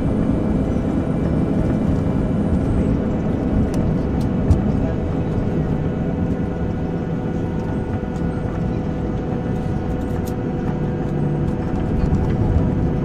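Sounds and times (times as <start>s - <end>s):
jet engine and airflow rumble: 0.0s - 13.0s
steady hum tones: 0.0s - 13.0s.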